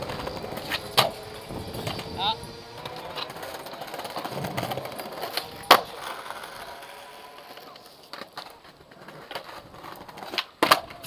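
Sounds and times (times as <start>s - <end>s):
skateboard clack: 0.0s - 11.0s
skateboard wheels rolling on stone: 0.0s - 11.0s.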